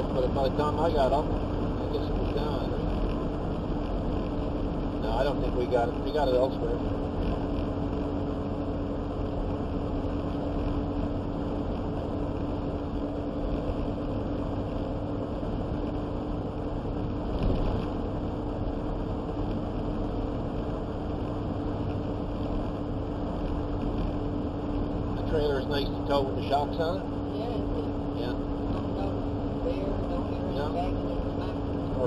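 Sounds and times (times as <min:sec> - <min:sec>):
constant low hum: 0:00.0 - 0:32.0
vehicle engine and road noise: 0:00.0 - 0:32.0.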